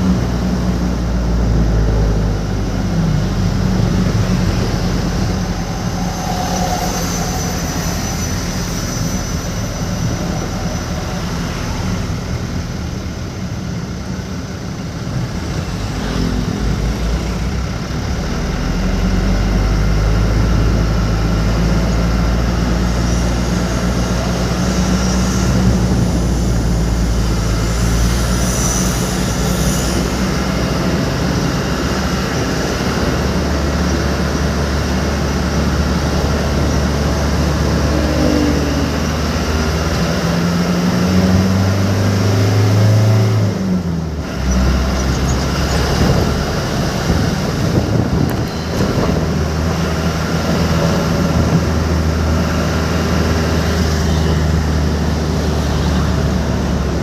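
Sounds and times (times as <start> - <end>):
vehicle engine droning: 0.0 - 57.0.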